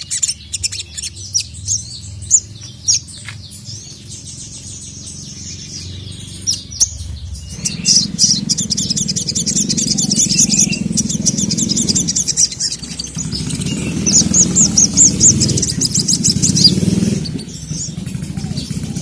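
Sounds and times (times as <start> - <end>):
sunbird chattering song: 0.0 - 19.0.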